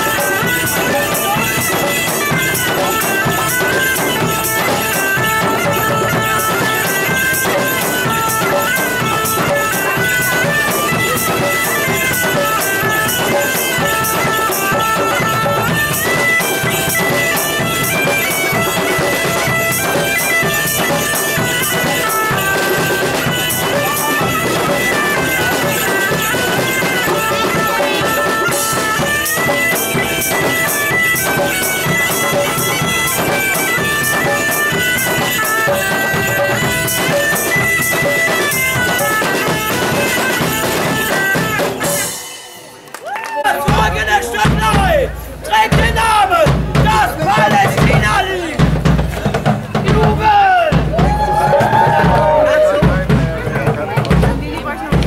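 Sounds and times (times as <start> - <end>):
bagpipe tune: 0.0 - 51.0
drums beating: 0.0 - 55.0.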